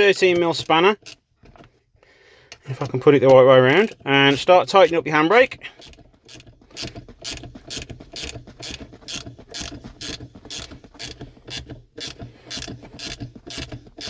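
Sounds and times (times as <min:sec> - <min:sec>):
ratchet spanner clicking: 0:00.3 - 0:01.2, 0:03.2 - 0:14.0.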